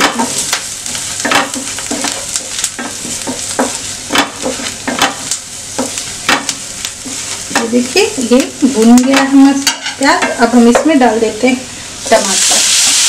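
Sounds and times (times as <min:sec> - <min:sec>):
onions sizzling in frying pan: 0:00.0 - 0:13.0.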